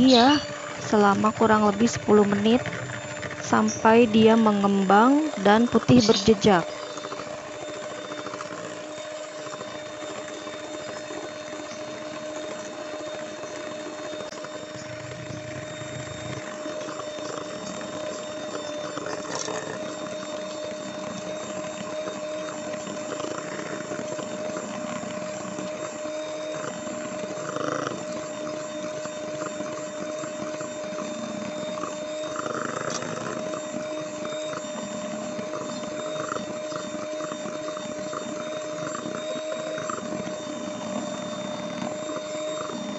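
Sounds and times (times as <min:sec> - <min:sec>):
electric hand mixer whine: 0:00.0 - 0:42.9.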